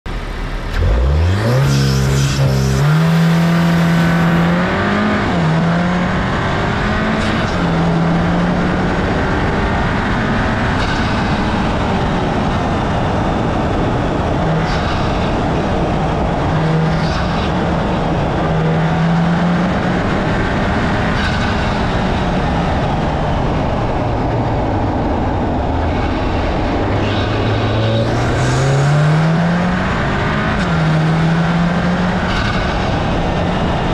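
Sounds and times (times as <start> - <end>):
car engine accelerating: 0.1 - 33.9
intake rush: 0.1 - 33.9.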